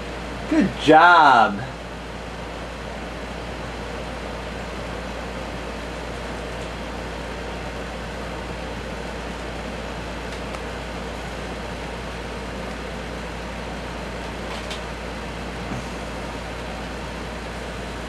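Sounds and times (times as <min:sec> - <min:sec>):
machine hum and hiss: 0:00.0 - 0:18.0.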